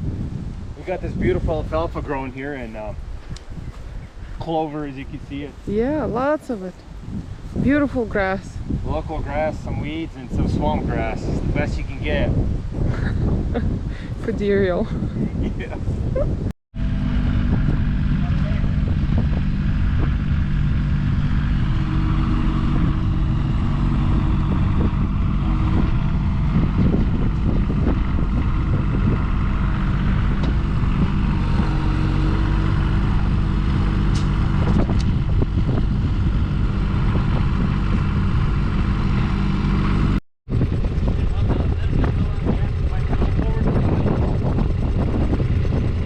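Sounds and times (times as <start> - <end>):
engine running steadily: 0.0 - 46.0.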